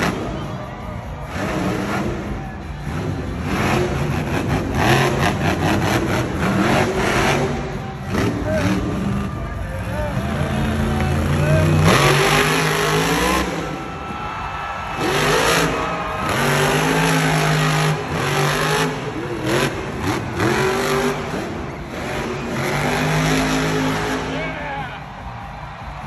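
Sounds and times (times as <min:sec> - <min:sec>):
monster truck engine revving: 0:00.0 - 0:24.9.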